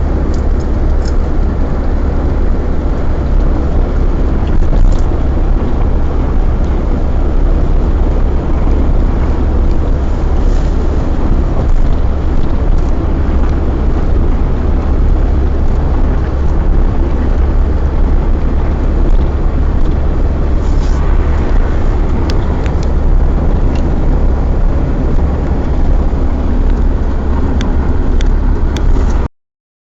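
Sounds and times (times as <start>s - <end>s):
engine and road rumble: 0.0s - 29.3s.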